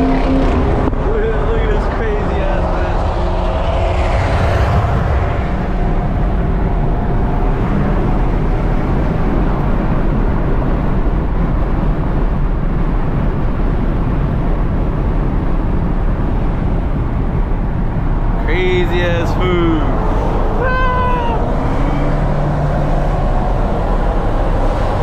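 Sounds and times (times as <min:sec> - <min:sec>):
loud car exhaust droning: 0:00.0 - 0:12.2, 0:15.1 - 0:25.0.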